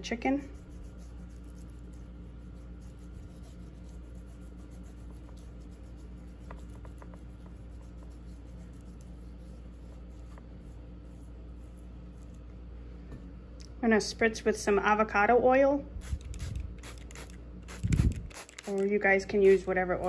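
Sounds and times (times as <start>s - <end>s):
hands rubbing seasoning into meat: 0.0s - 12.5s, 16.0s - 20.0s
low background hum: 0.0s - 20.0s.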